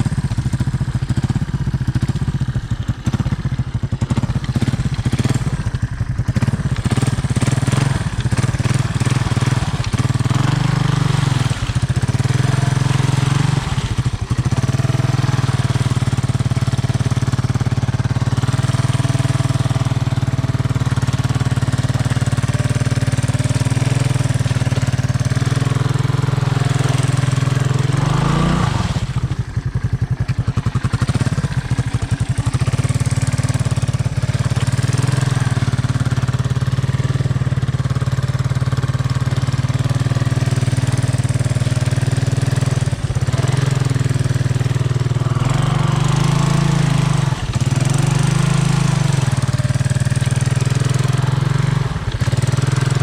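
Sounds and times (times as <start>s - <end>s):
single-cylinder engine running: 0.0s - 53.0s.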